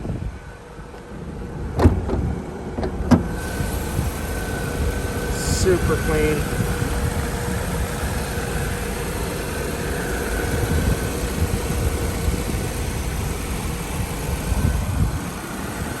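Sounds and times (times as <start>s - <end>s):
car engine idling: 0.4s - 16.0s.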